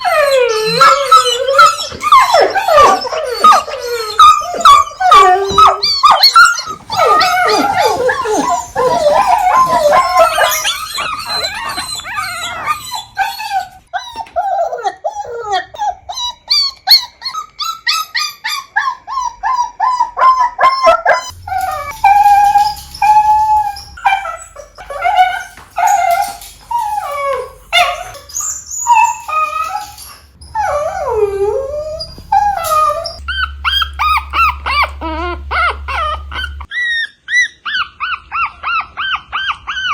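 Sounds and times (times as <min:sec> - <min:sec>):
dogs whining and yelping: 0:00.0 - 0:39.9.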